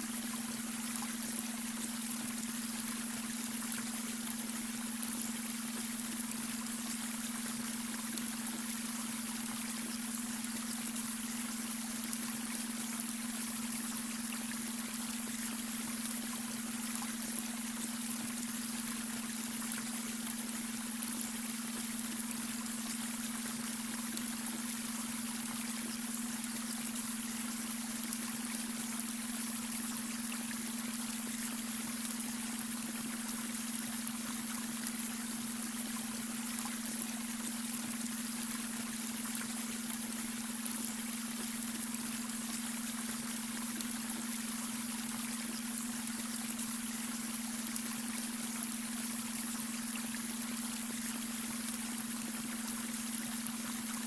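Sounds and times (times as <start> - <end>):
babbling brook water: 0.0 - 54.0
continuous low tone: 0.0 - 54.0.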